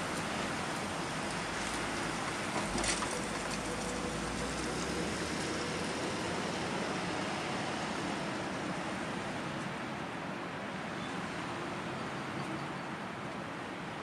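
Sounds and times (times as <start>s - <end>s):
storm wind through branches: 0.0s - 14.0s.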